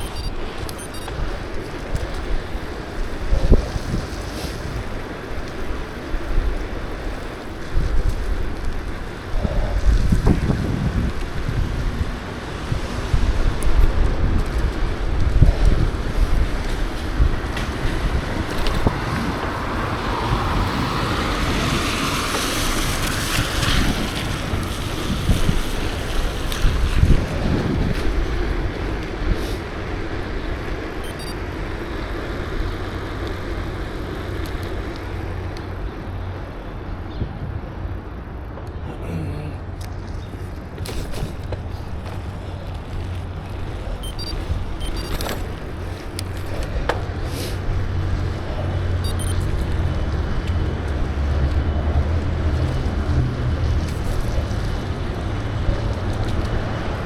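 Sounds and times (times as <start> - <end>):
road traffic passing: 0.0 - 57.0
wind rumbling on microphone: 0.0 - 57.0.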